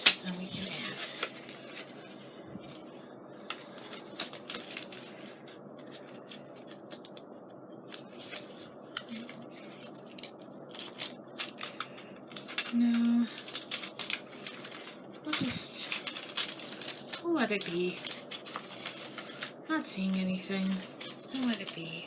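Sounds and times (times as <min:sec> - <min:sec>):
paper and plastic rustling: 0:00.0 - 0:22.0.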